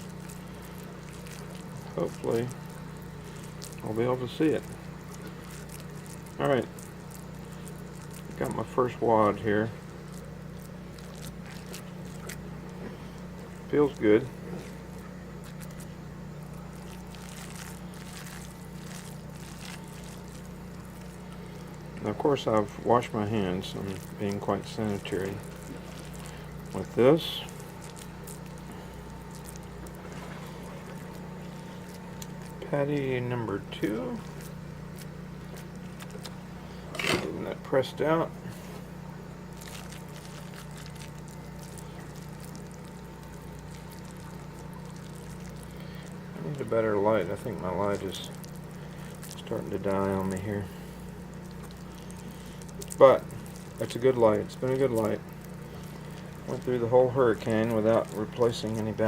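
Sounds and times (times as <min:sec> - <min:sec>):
oil crackling in a pan: 0:00.0 - 0:38.0, 0:38.7 - 0:59.0
low engine-like hum: 0:00.0 - 0:59.0.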